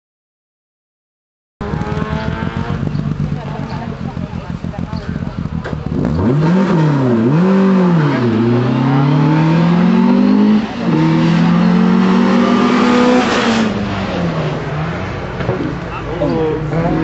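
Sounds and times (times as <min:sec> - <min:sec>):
car engine accelerating hard: 0:01.6 - 0:17.0.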